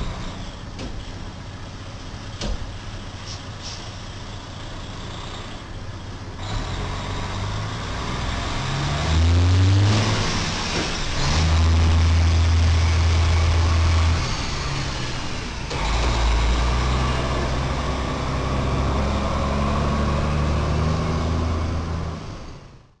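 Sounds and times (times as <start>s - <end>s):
diesel truck engine revving: 0.0s - 23.0s.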